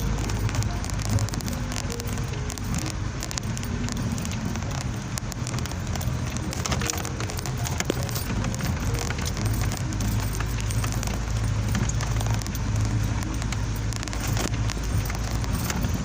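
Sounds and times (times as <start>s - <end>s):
small rattles and clicks: 0.0s - 16.0s
vehicle engine and road drone: 0.0s - 16.0s.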